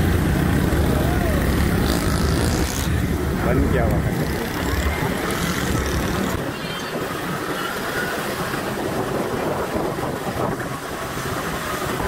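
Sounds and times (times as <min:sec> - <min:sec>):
motorcycle engine and tyre noise: 0:00.0 - 0:12.0.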